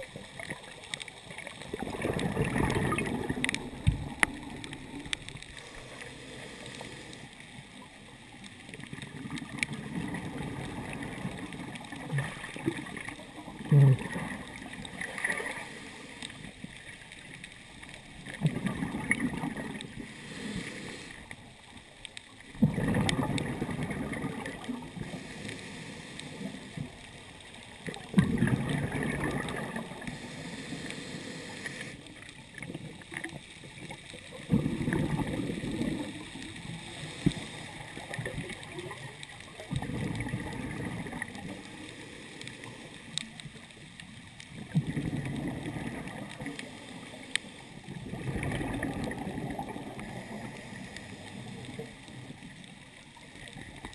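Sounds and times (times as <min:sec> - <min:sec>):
steady hiss: 0:00.0 - 0:08.9, 0:09.5 - 0:18.4, 0:19.3 - 0:22.6, 0:23.4 - 0:44.6, 0:46.0 - 0:53.8
underwater exhaust bubbles: 0:00.0 - 0:53.9.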